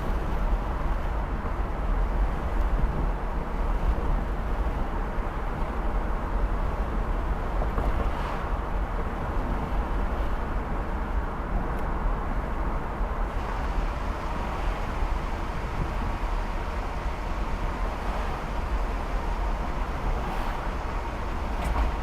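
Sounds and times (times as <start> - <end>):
wind buffeting in car: 0.0 - 22.0.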